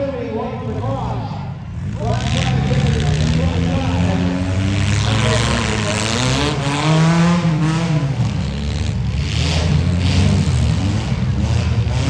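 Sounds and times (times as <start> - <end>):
small car engines revving: 0.0 - 12.0.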